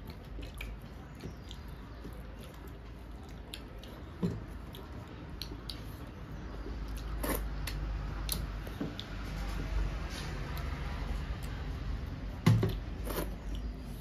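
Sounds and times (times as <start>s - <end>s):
chewing: 0.0s - 11.6s.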